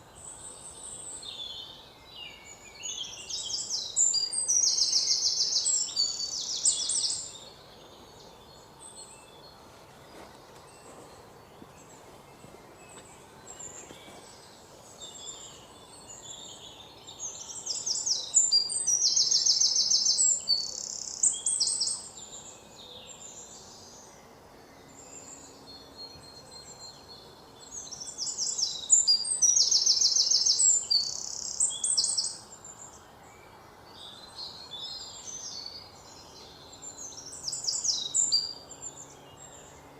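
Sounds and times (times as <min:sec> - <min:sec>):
birds chirping and trilling: 0:00.0 - 0:39.9
low steady hiss: 0:00.0 - 0:39.9.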